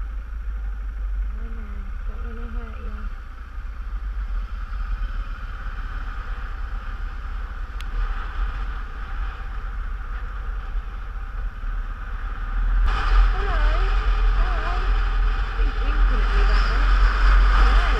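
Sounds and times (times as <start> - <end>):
motorcycle engine running: 0.0 - 17.9
wind rumbling over microphone: 0.0 - 17.9.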